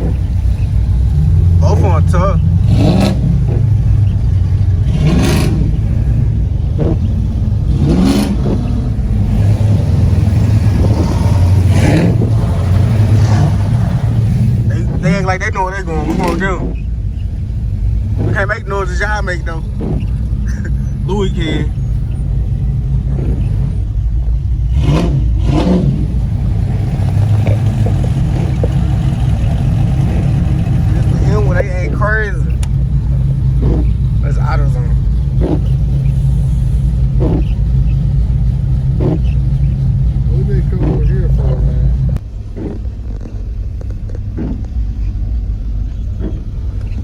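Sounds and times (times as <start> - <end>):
car engine and exhaust droning: 0.0 - 47.0
engine revving bursts: 0.0 - 47.0.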